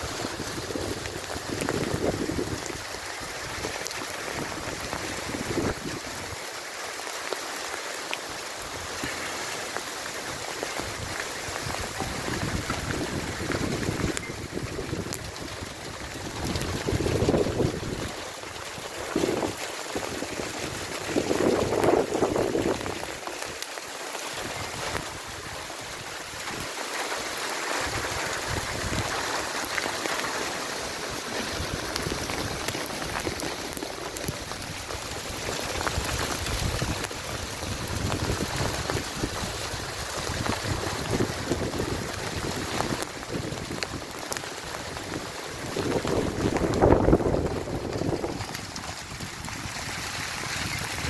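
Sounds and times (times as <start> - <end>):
hail striking cars and street: 0.0 - 51.0.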